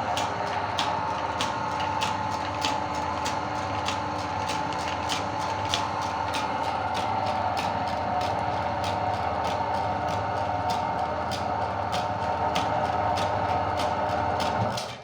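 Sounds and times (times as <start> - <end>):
meat grinder motor running: 0.0 - 15.0.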